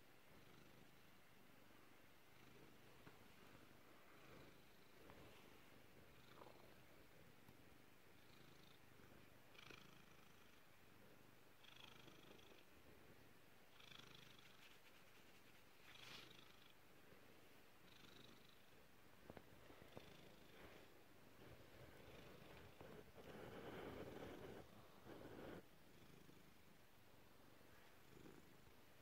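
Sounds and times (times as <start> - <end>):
cat purring: 0.0 - 29.0.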